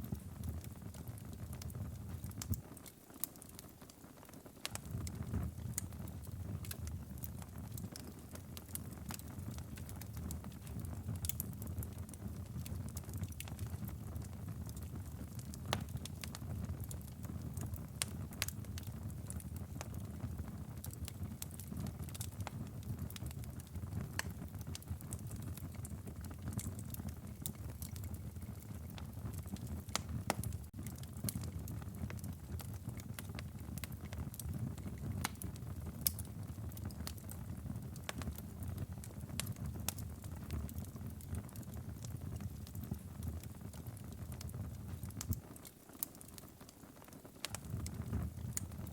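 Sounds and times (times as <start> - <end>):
low rumble of flames: 0.0 - 4.0, 4.6 - 48.9
wood fire crackling and popping: 0.0 - 48.9.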